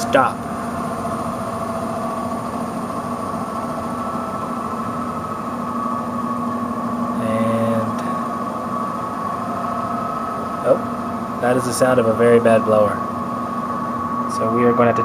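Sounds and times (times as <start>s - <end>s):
blower motor hum and whine: 0.0s - 15.0s.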